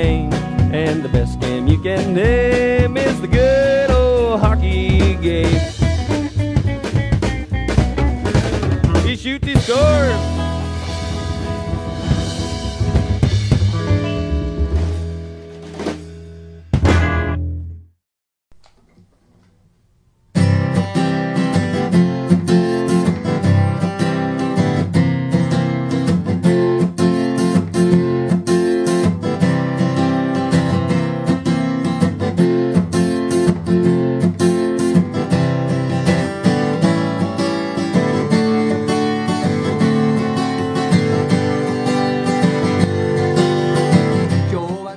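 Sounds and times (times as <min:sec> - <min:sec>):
strummed acoustic guitar: 0:00.0 - 0:17.4, 0:20.3 - 0:44.9.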